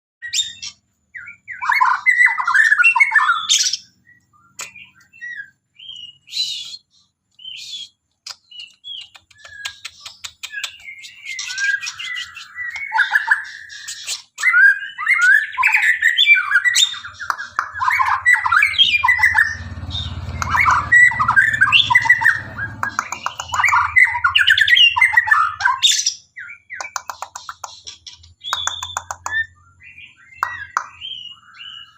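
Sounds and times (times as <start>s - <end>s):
songbird singing whistled phrases: 0.2s - 31.9s.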